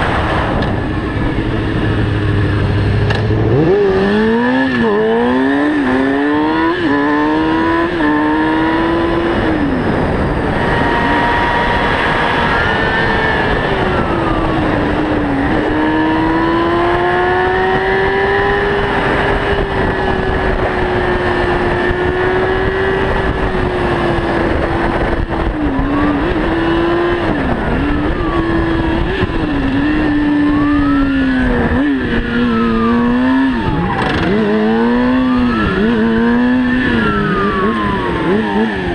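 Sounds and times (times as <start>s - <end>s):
motorcycle engine at speed: 0.0s - 38.9s
vehicles passing: 0.0s - 38.9s.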